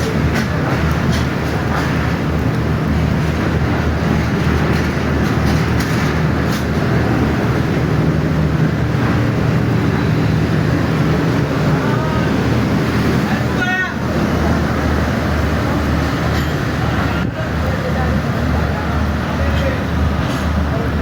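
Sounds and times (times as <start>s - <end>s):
heavy rain: 0.0s - 21.0s
train running: 0.0s - 21.0s.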